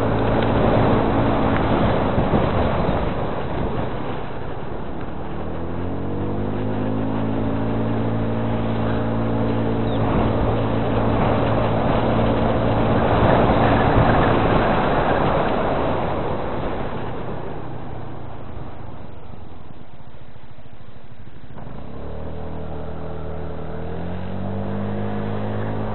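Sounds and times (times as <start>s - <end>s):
motor engine running: 0.0s - 25.9s
rushing noise: 0.0s - 25.9s.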